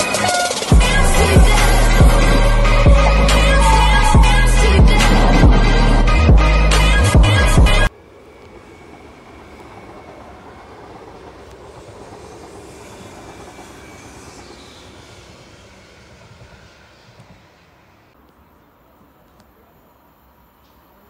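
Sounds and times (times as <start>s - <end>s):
train wheels rumbling on rails: 0.0s - 18.2s.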